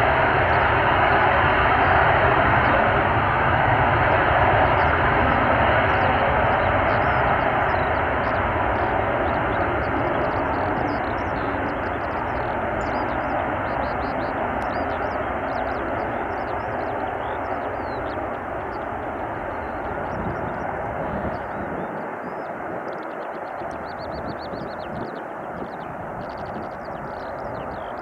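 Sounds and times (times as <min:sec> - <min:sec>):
airplane passing: 0:00.0 - 0:28.0.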